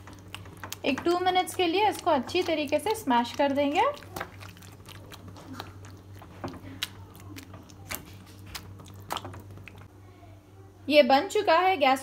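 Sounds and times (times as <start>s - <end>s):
masher squelching vegetables: 0.0s - 9.9s
steady low hum: 0.0s - 12.0s.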